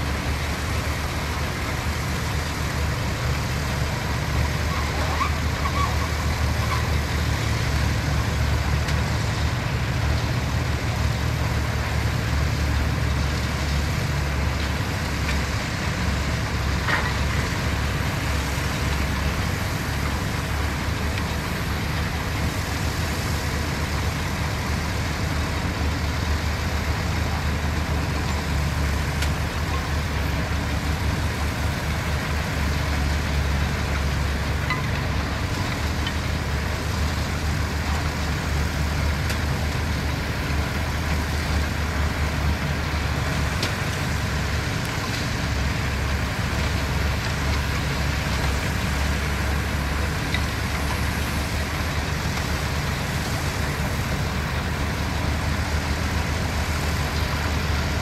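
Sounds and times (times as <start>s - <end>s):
heavy machinery engines rumbling: 0.0s - 58.0s.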